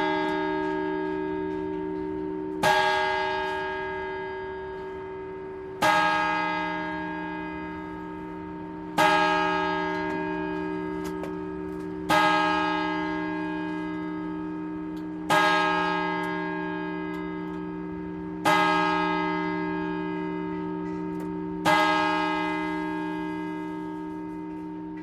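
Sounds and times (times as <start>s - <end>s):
clock bell striking: 0.0s - 25.0s.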